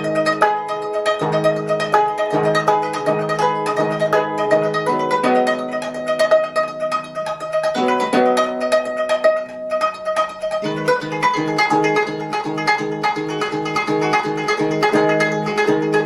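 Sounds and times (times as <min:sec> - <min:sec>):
plucked zither notes: 0:00.0 - 0:16.0.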